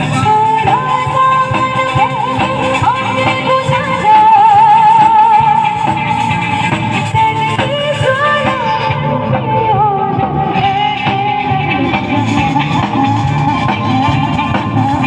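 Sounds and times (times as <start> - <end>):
wavering lead melody: 0.0 - 15.0.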